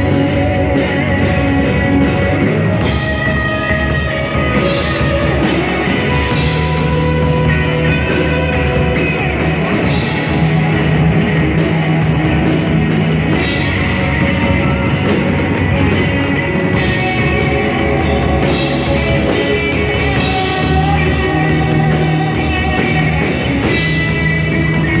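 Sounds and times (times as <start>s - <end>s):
electric guitar: 0.0s - 25.0s
rock band playing: 0.0s - 25.0s.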